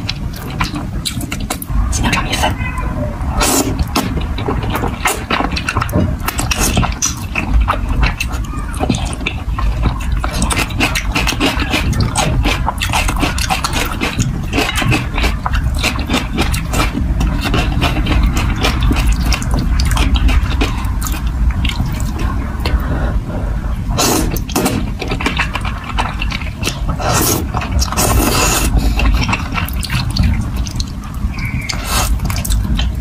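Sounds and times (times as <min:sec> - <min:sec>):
wet chewing of noodles: 0:00.0 - 0:33.0
noodle slurp: 0:03.3 - 0:23.1, 0:23.9 - 0:33.0.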